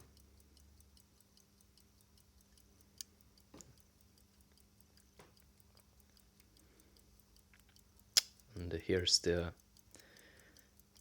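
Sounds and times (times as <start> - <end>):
pocket watch ticking: 0.0 - 11.0
soft handling clicks: 0.0 - 11.0.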